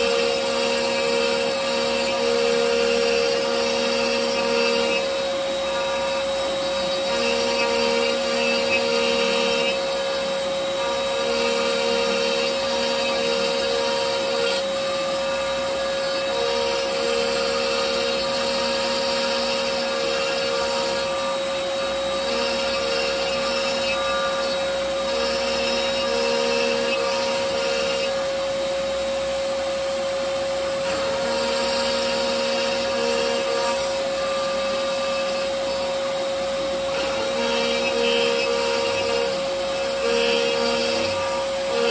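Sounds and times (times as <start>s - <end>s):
cnc router spindle whine: 0.0s - 41.9s
router bit cutting wood: 0.0s - 41.9s.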